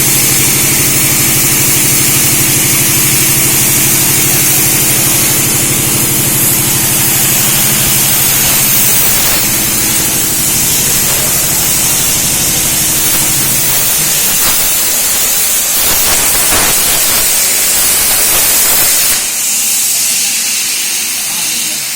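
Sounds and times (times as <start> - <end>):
plasma arc hissing: 0.0 - 21.9.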